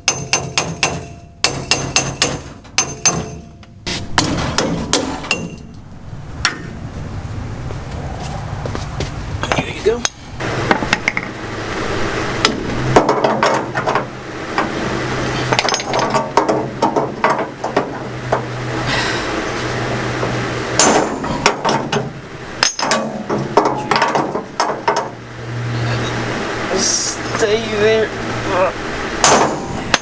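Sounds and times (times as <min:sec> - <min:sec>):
low hum: 0:01.0 - 0:30.0.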